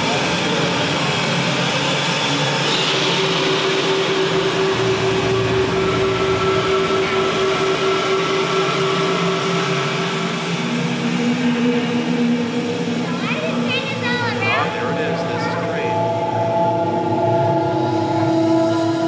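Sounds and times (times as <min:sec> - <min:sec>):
steam train rumble over speakers: 0:00.0 - 0:19.0.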